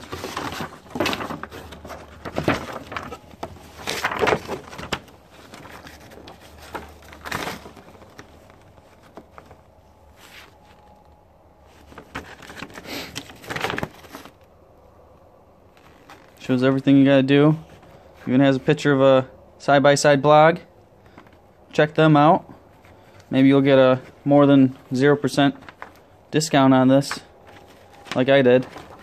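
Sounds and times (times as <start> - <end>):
paper pages rustling: 0.0 - 14.5, 15.6 - 16.6, 21.0 - 29.0.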